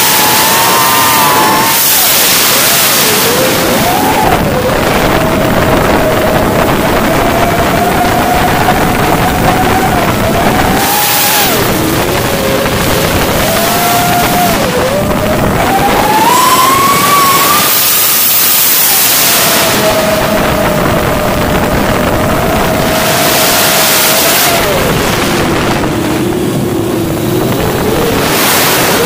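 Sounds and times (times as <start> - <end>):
rushing wind: 0.0 - 29.0.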